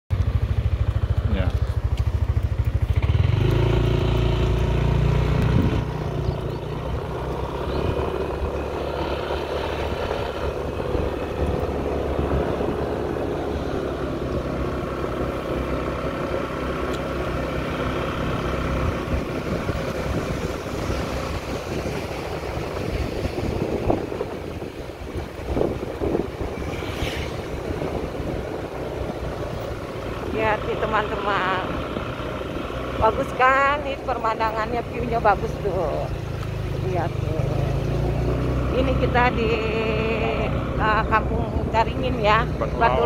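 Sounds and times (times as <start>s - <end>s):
motor scooter engine running: 0.1s - 43.0s.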